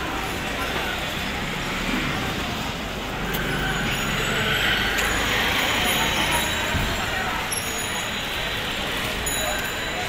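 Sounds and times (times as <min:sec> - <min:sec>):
busy road traffic rumble: 0:00.0 - 0:10.0.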